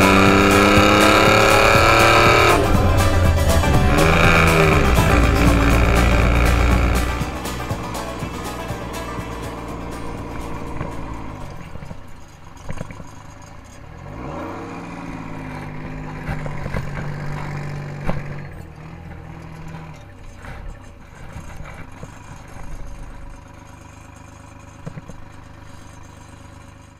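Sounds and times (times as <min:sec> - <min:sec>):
engine knocks: 0:00.0 - 0:26.9
truck diesel engine revving: 0:00.0 - 0:26.9.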